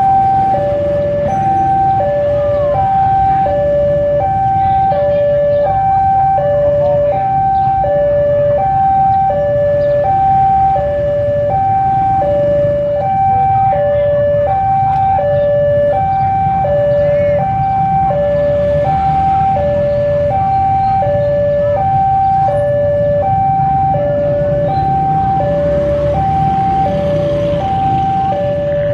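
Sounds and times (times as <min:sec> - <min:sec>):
level crossing two-tone alarm: 0:00.0 - 0:28.9.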